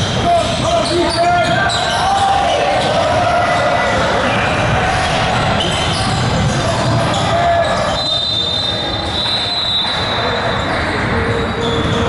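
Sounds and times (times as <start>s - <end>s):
sneaker squeaks: 0.0s - 3.6s, 4.3s - 12.0s.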